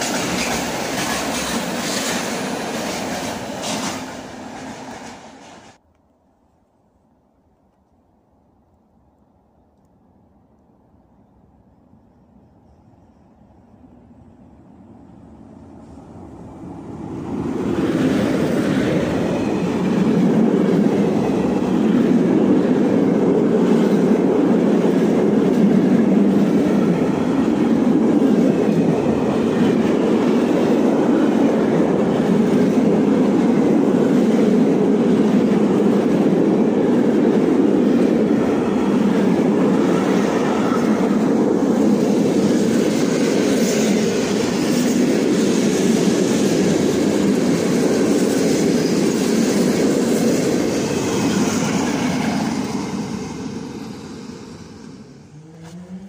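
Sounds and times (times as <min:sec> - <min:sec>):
steel wheels rumbling on rails: 0:00.0 - 0:05.8, 0:14.7 - 0:56.0.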